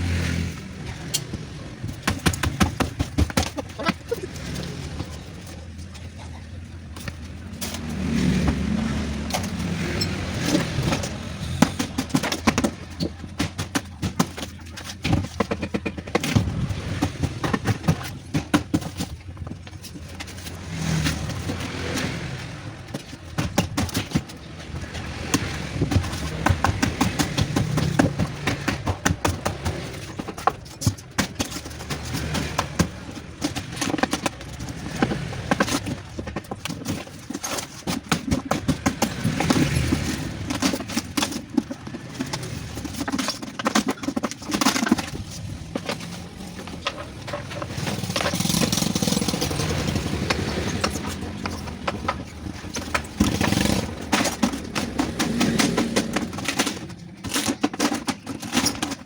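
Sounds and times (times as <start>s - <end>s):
metal knocks and clanks: 0.1s - 59.0s.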